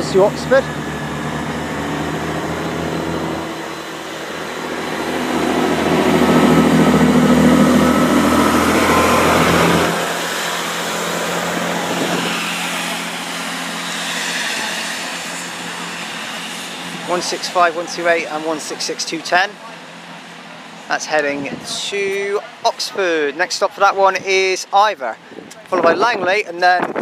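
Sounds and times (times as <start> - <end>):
diesel train engines accelerating: 0.0 - 26.6
rumble of moving train: 0.0 - 27.0.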